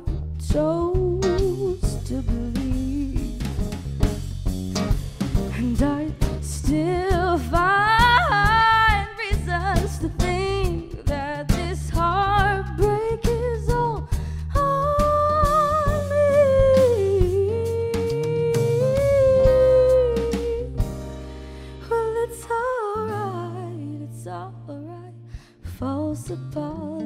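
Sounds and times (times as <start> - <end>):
woman singing: 0.0 - 3.7, 5.5 - 20.9, 21.8 - 27.0
drum kit: 0.0 - 22.5
acoustic guitar: 0.0 - 27.0
electric bass: 0.0 - 27.0.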